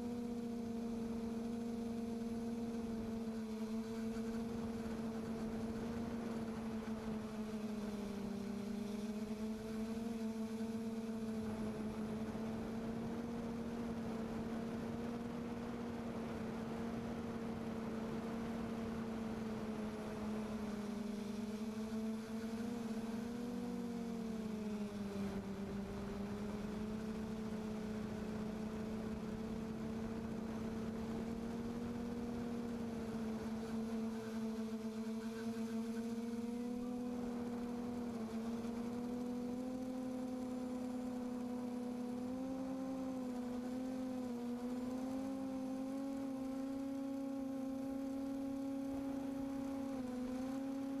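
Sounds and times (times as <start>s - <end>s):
drone motors and propellers humming: 0.0s - 51.0s.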